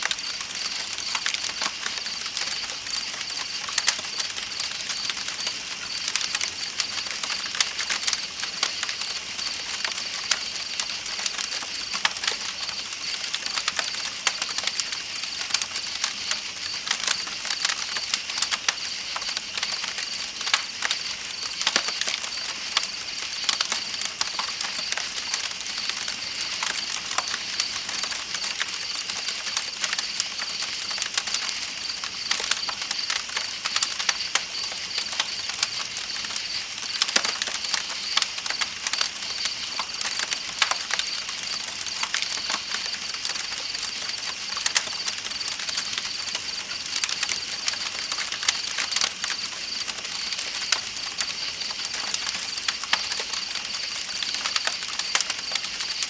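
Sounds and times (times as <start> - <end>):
campfire crackling and popping: 0.0 - 56.0
night insects trilling: 0.0 - 56.0.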